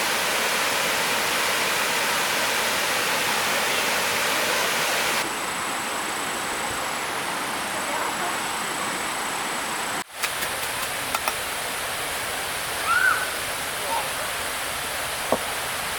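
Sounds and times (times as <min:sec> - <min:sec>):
fast-flowing stream water: 0:00.0 - 0:15.9.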